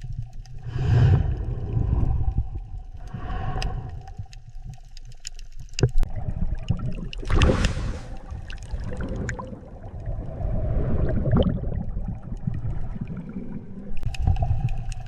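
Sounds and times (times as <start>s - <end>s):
water rushing and gurgling: 0.0s - 15.0s.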